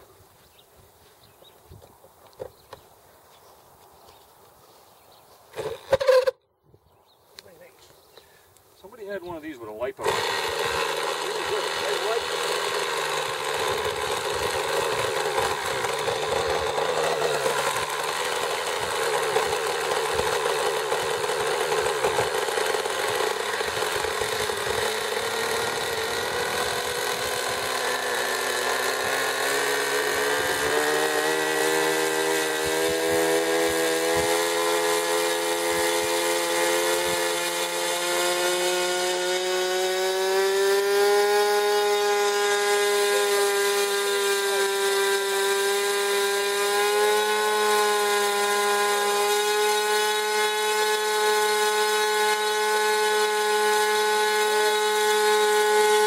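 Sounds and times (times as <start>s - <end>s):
model airplane engine running: 5.6s - 6.3s, 8.8s - 56.0s.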